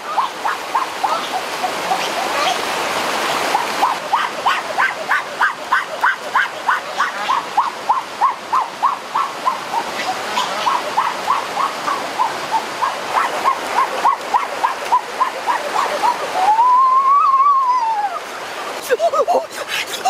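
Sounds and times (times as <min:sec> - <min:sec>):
rushing stream: 0:00.0 - 0:20.0.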